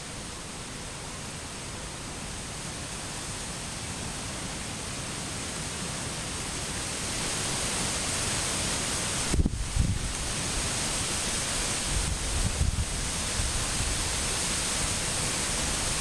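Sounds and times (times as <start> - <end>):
distant waterfall hiss: 0.0 - 16.0.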